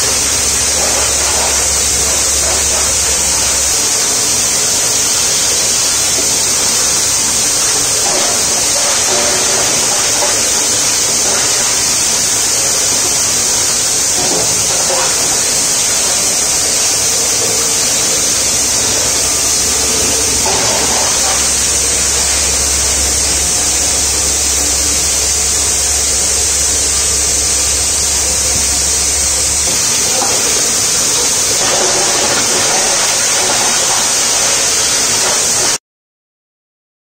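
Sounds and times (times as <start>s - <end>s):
low hum: 0.0s - 34.6s
plastic grinder blower hissing: 0.0s - 35.8s.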